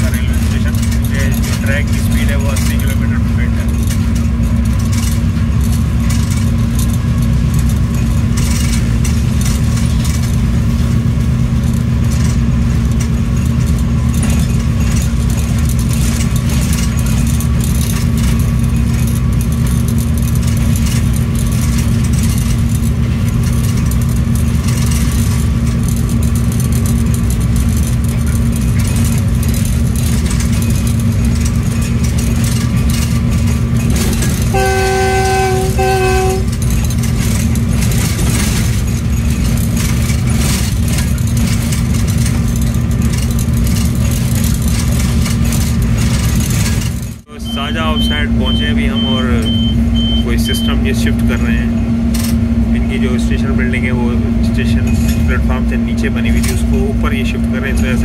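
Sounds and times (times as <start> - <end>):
diesel locomotive engine drone: 0.0 - 58.0
wheels clicking over track: 0.0 - 58.0.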